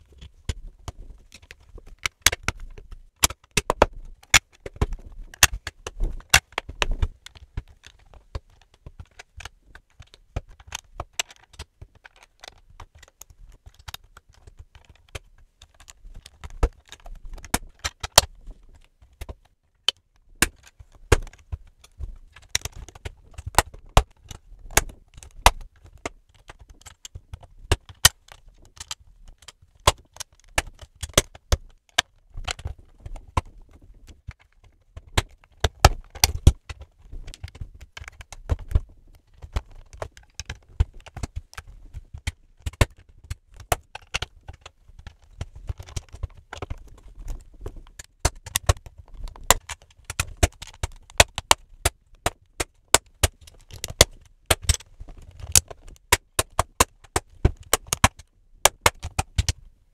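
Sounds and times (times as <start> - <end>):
plastic bricks clicking and snapping: 0.1 - 59.6.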